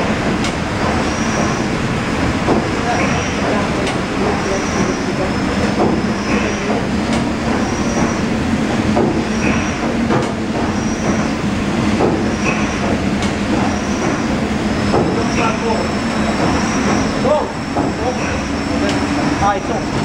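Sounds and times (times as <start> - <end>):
engine knocks and hisses: 0.0 - 20.0
steam engine clatter and hiss: 0.0 - 20.0.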